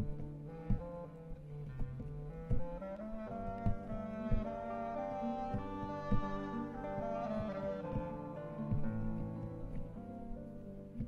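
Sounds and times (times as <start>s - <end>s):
small ensemble song with low beat: 0.0s - 10.4s.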